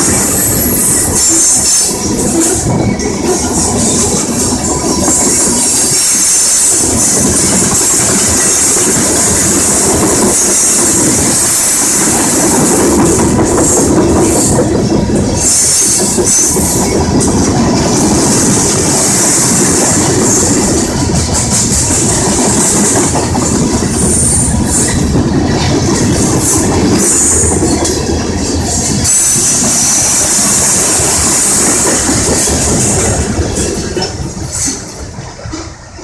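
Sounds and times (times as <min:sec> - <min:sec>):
freight train rumbling past: 0:00.0 - 0:36.0
wheels clacking over rails: 0:00.0 - 0:36.0.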